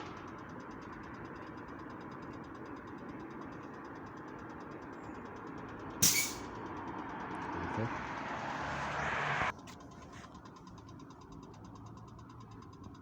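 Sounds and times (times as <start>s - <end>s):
locomotive engine idling: 0.0s - 8.8s, 9.5s - 13.0s.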